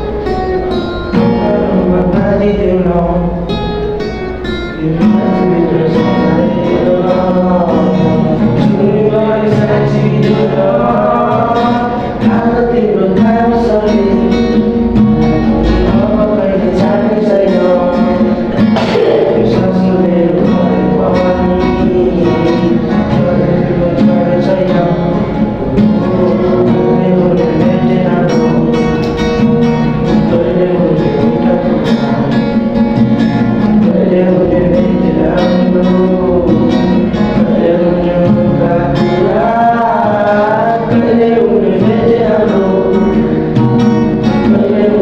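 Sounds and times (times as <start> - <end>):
song with vocals guitar and beat: 0.0 - 45.0.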